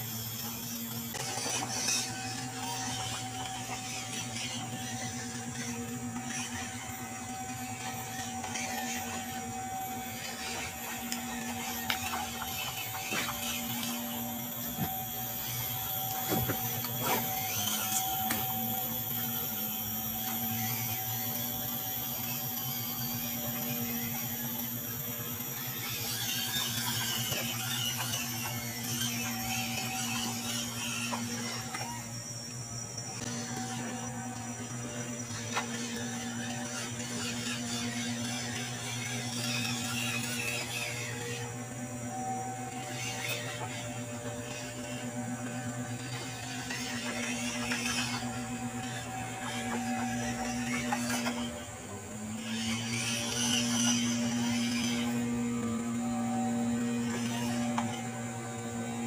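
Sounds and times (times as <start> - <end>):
electric motor and gearbox whining: 0.0 - 59.0
low hum: 0.0 - 59.0.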